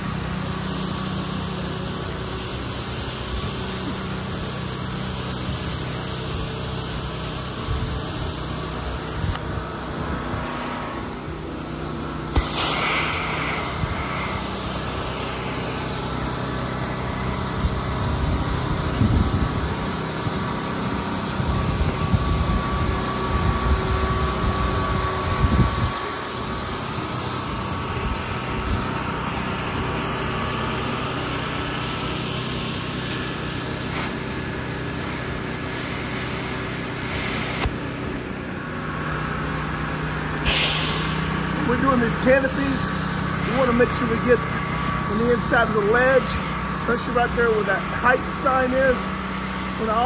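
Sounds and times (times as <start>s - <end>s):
high-pressure water spray hissing: 0.0s - 38.0s, 40.4s - 50.0s
pressure washer engine running: 0.0s - 50.0s.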